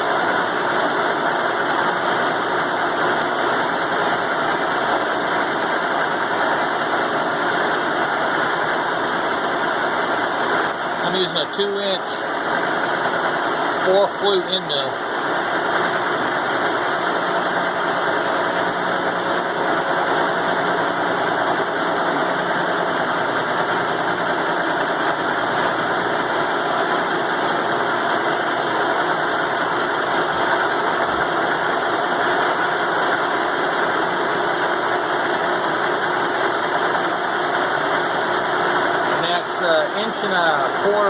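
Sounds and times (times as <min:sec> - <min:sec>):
milling machine cutting steel: 0:00.0 - 0:41.0.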